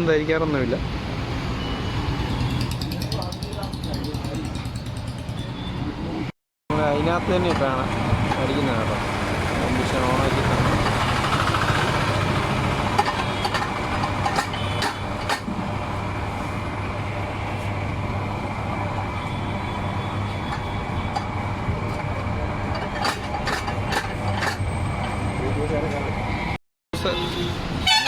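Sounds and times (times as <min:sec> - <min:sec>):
vehicle engines passing: 0:00.1 - 0:26.6.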